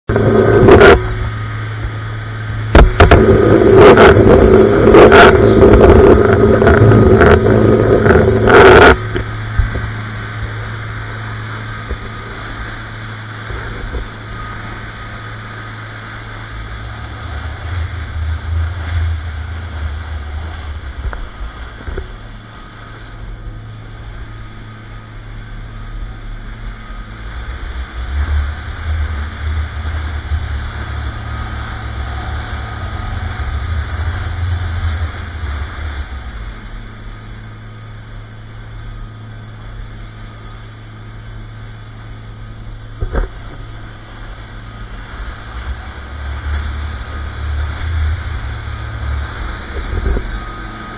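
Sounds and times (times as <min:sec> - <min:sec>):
boat engine drone: 0:00.0 - 0:50.9
rush of wake and spray: 0:00.1 - 0:50.9.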